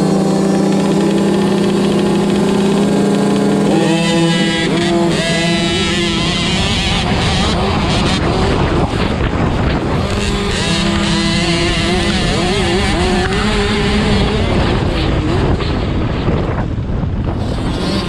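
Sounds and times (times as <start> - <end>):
dirt bike revving high: 0.0 - 18.0
other dirt bikes racing: 0.0 - 18.0.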